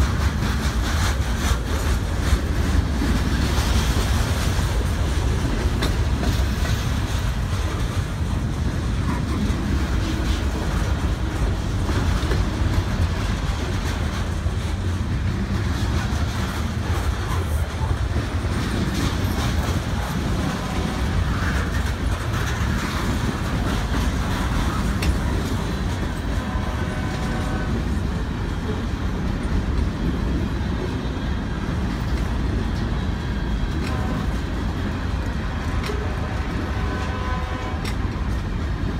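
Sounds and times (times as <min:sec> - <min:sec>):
train wheels rumbling on rails: 0:00.0 - 0:38.9
wheels clacking over rail joints: 0:00.0 - 0:38.9.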